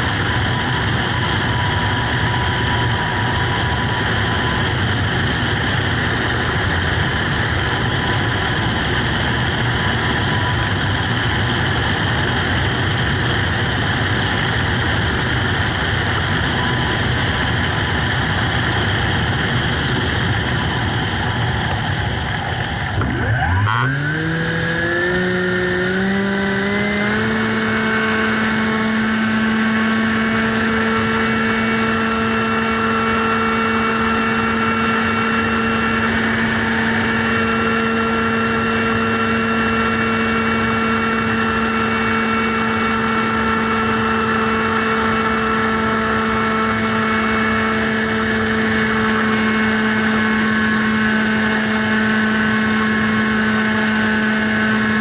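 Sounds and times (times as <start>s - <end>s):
model plane motor and propeller: 0.0s - 55.0s.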